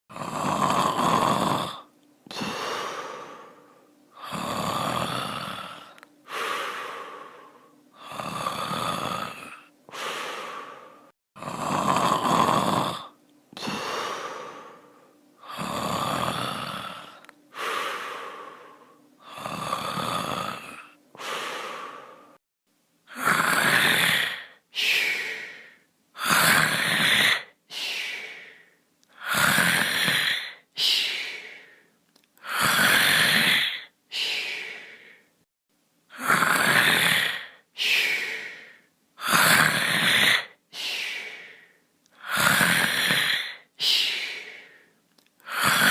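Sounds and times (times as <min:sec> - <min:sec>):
person snoring: 0:00.1 - 0:22.4, 0:23.1 - 0:35.3, 0:36.1 - 0:45.9.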